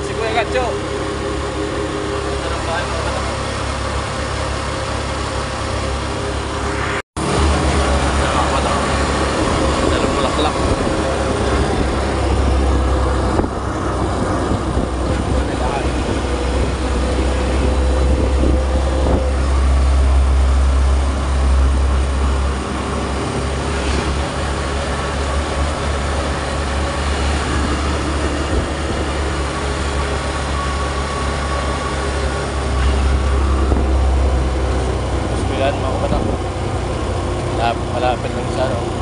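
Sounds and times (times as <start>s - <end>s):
motorcycle engine rumble: 0.0s - 39.0s
road noise: 0.0s - 39.0s.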